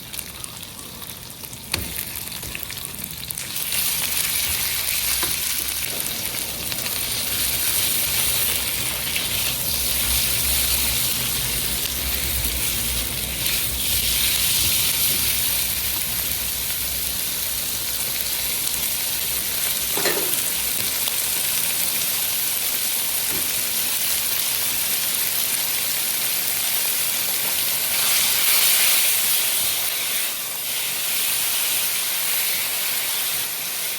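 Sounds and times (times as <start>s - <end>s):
food sizzling in a hot pan: 0.0s - 33.9s.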